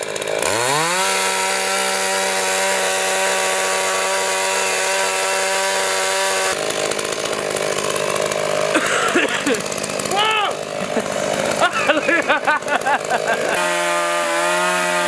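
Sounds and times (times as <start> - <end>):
chainsaw at high revs: 0.0 - 15.0.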